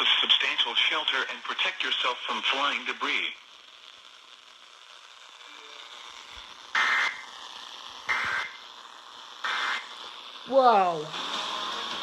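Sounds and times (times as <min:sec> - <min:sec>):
buzzy digital data bursts: 0:00.0 - 0:12.0
radio hiss: 0:00.0 - 0:12.0.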